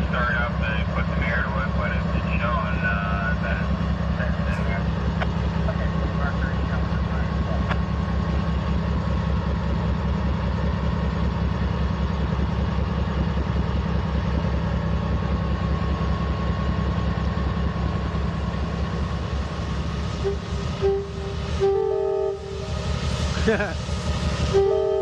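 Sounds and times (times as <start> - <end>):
locomotive engine idling: 0.0 - 25.0.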